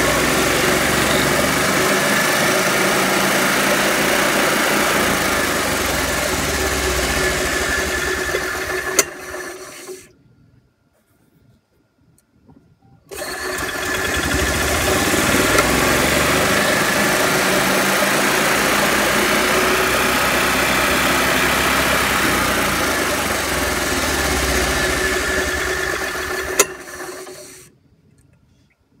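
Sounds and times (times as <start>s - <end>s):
golf cart engine running: 0.0s - 10.0s, 13.1s - 27.6s.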